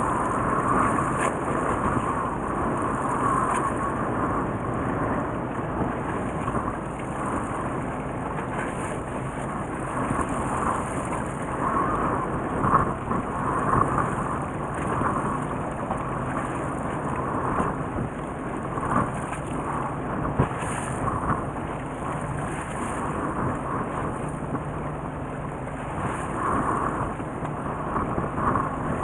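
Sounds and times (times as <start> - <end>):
boat engine rumble: 0.0 - 29.0
water noise: 0.0 - 29.0
wind: 0.0 - 29.0.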